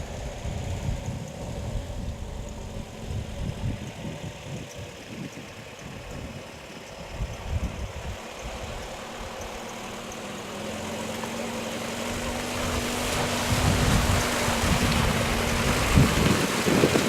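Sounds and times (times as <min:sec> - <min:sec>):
pickup engine low rumble: 0:00.0 - 0:17.0.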